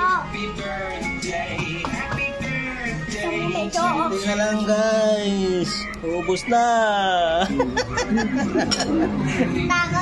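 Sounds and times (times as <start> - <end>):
background music with singing: 0.0 - 10.0.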